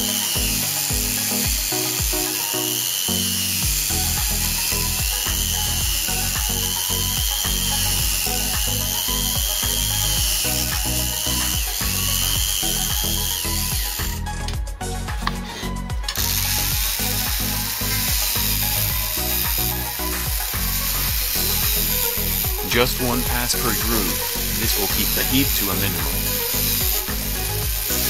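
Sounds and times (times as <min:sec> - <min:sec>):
background music: 0:00.0 - 0:28.0
rotary tool whining: 0:00.0 - 0:28.0.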